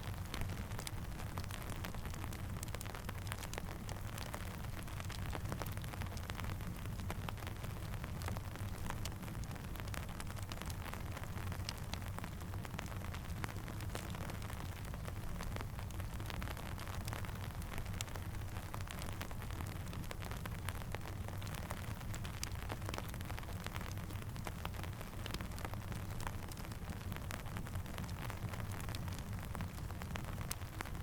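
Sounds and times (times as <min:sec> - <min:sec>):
rain falling: 0:00.0 - 0:31.0
campfire crackling: 0:00.1 - 0:31.0.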